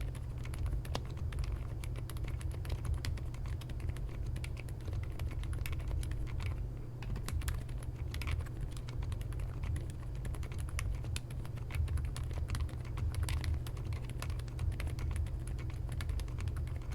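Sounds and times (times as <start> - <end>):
steady low hum: 0.0 - 16.9
typing on mechanical keyboard: 0.0 - 16.9.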